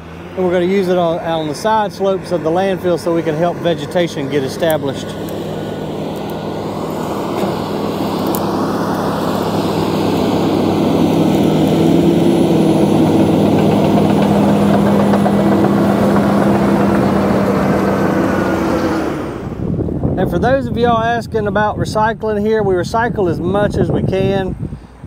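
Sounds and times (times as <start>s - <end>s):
bulldozer diesel engine running: 0.0s - 20.4s.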